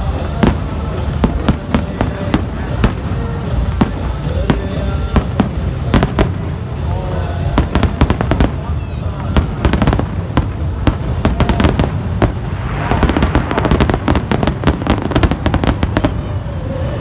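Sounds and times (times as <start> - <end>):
fireworks bangs and crackles: 0.0 - 17.0
low rumble: 0.0 - 17.0.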